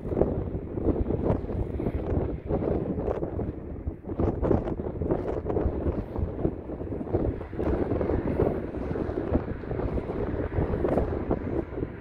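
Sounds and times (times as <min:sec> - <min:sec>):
wind blowing on microphone: 0:00.0 - 0:12.0.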